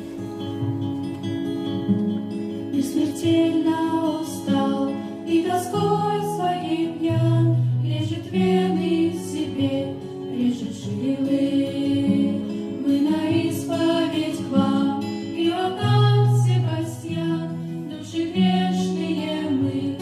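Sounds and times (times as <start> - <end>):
instrumental accompaniment: 0.0 - 20.0
vocal ensemble singing: 2.8 - 20.0.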